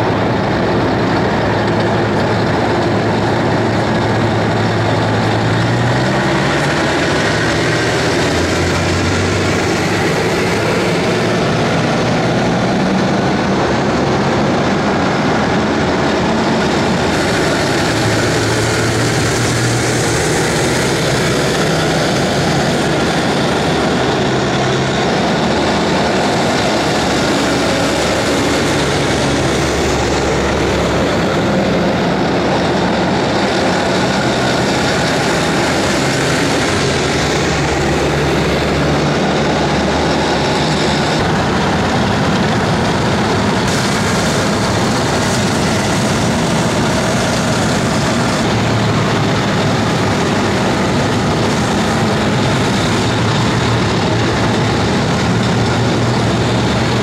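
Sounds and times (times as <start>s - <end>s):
tracked vehicles engines and tracks: 0.0s - 57.0s.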